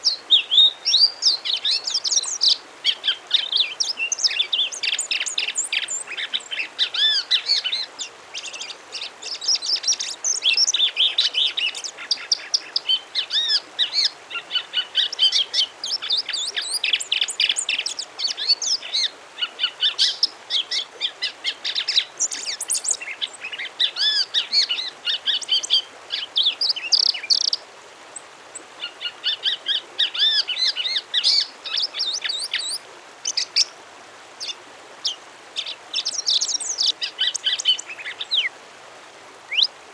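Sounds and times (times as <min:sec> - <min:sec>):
songbird singing: 0:00.0 - 0:33.8, 0:34.4 - 0:38.6, 0:39.5 - 0:39.8.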